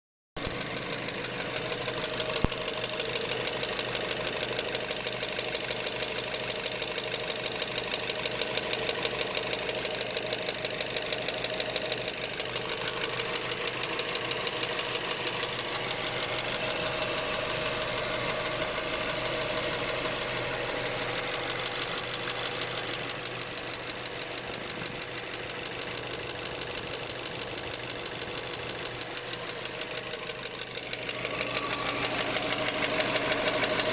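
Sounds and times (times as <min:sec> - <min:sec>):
car engine running with ticking: 0:00.4 - 0:33.9.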